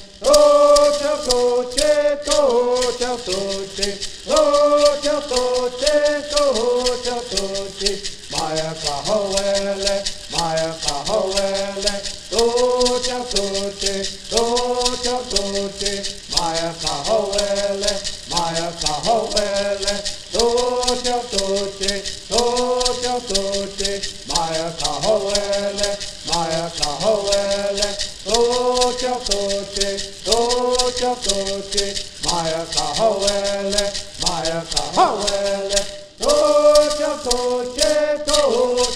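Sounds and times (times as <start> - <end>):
gourd rattles shaking: 0.0 - 38.9
men singing in unison: 0.0 - 38.9.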